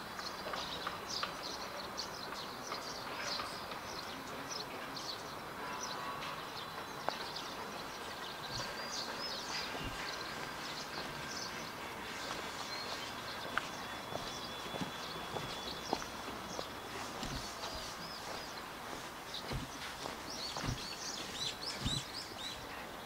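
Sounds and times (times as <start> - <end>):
steady background hiss: 0.0 - 23.0
bird chirps and calls: 0.1 - 23.0.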